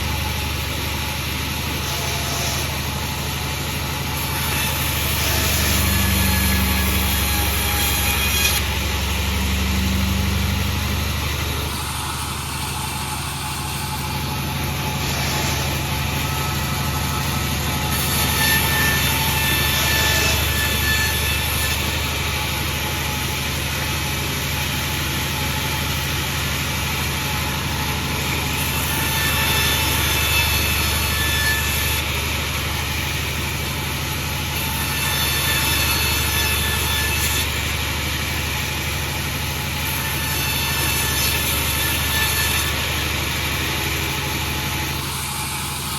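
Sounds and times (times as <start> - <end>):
sawmill machinery droning: 0.0 - 45.9.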